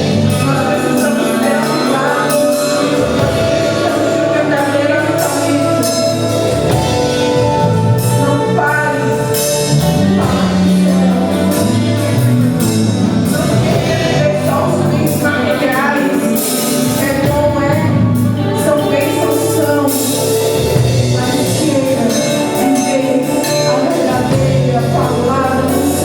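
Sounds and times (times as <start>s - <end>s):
people singing: 0.0s - 26.0s
sustained chords: 0.0s - 26.0s.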